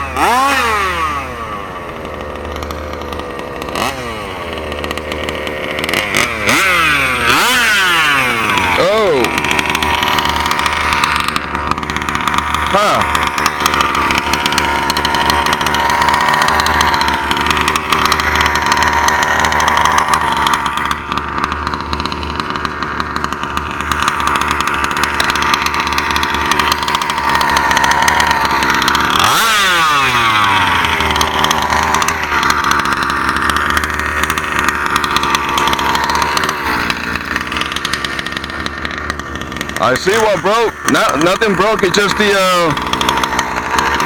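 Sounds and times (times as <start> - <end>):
small two-stroke engine revving: 0.0 - 44.0.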